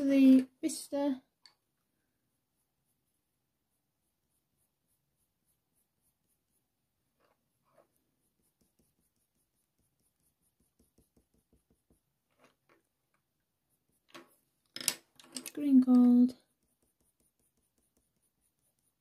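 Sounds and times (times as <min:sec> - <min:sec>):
coloured pencil scratching on paper: 0:02.0 - 0:14.6, 0:15.6 - 0:19.0.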